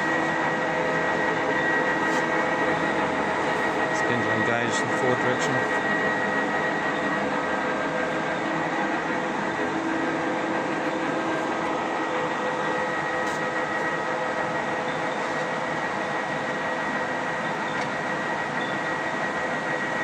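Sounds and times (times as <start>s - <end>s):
lathe running: 0.0s - 20.0s.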